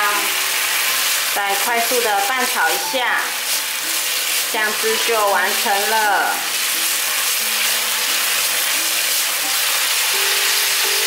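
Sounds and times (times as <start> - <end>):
sauce sizzling in a hot pan: 0.0 - 11.0.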